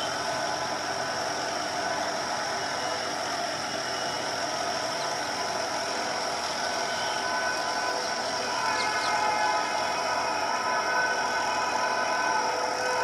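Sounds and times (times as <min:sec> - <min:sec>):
constant high hiss: 0:00.0 - 0:13.0.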